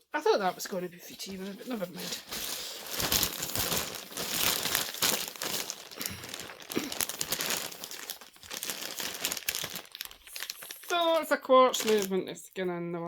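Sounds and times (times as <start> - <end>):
packaging crinkling: 1.3 - 12.2.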